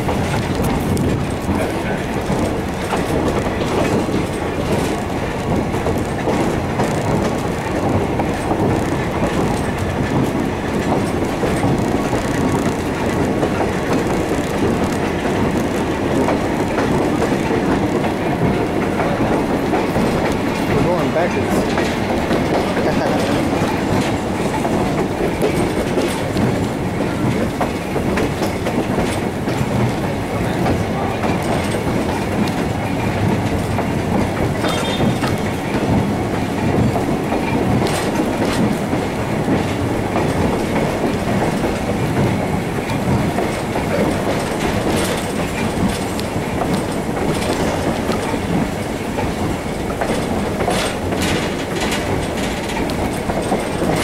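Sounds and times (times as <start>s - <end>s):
steam locomotive exhaust rushing: 0.0s - 54.0s
wheels clicking on rails: 0.0s - 54.0s.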